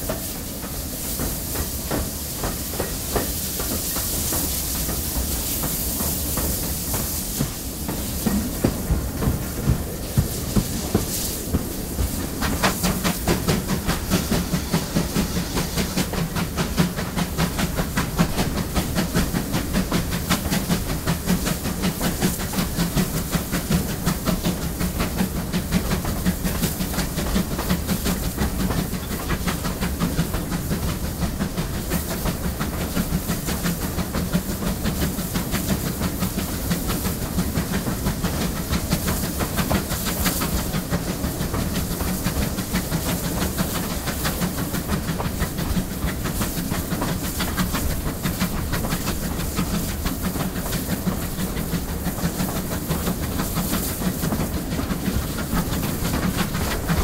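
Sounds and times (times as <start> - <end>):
steam hissing: 0.0 - 57.0
steam locomotive exhaust beat: 0.0 - 57.0
wheels running on rails: 0.0 - 57.0.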